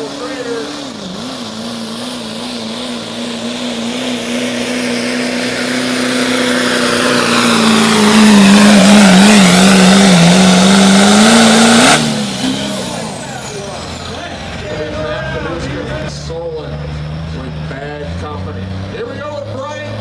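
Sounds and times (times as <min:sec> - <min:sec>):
diesel truck engine at full throttle: 0:00.0 - 0:20.0.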